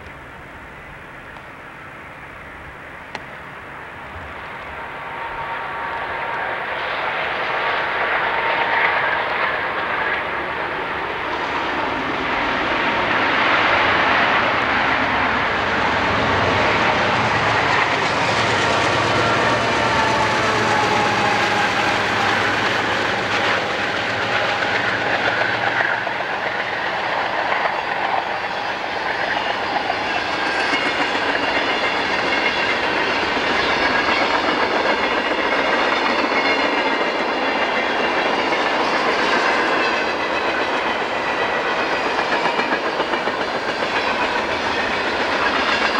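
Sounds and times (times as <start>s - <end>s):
freight train passing: 0.0s - 45.9s.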